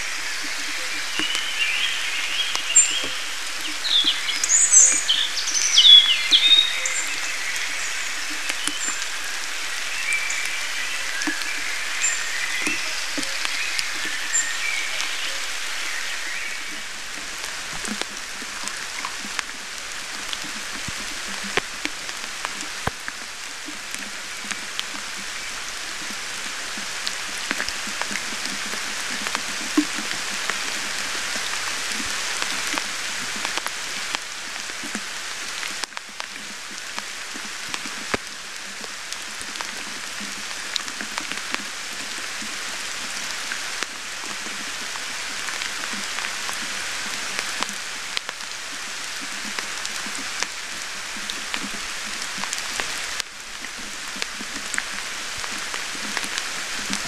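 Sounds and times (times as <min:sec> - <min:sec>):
sharp taps of raindrops: 0:00.0 - 0:57.0
steady rain falling: 0:00.0 - 0:57.0.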